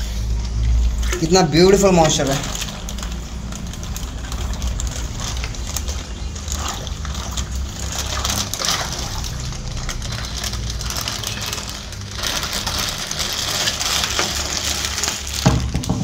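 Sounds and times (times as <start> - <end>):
water pouring into a tank: 0.0 - 16.0.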